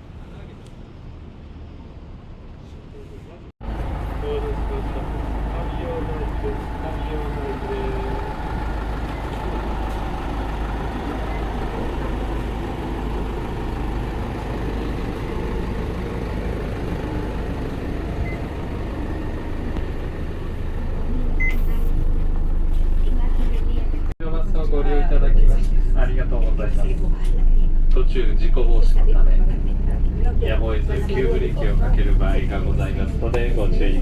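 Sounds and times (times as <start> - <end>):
bus engine running: 0.0 - 34.0
road noise: 0.0 - 34.0.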